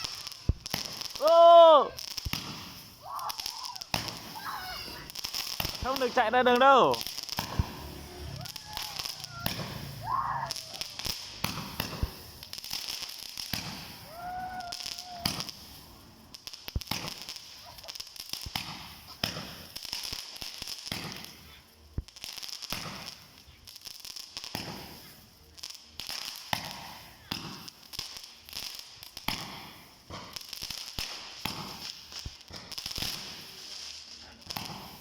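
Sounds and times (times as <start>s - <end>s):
fireworks popping and banging: 0.0s - 35.0s
steady hiss: 0.0s - 35.0s.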